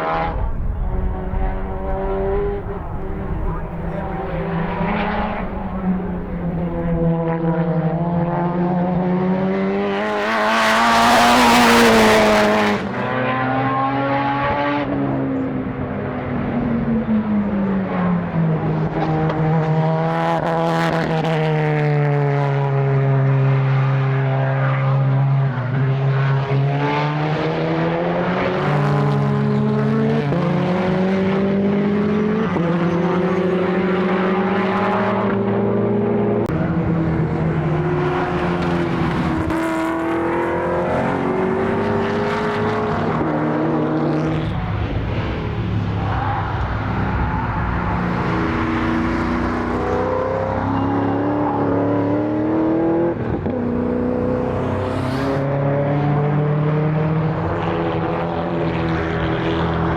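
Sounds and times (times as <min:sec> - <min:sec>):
race car engine revving: 0:00.0 - 0:22.4, 0:25.8 - 0:59.9.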